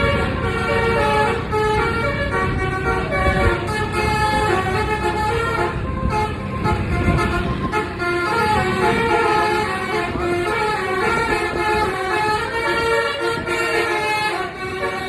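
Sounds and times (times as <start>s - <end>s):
bus horn playing melody: 0.0s - 15.0s
engine and traffic rumble: 0.0s - 15.0s.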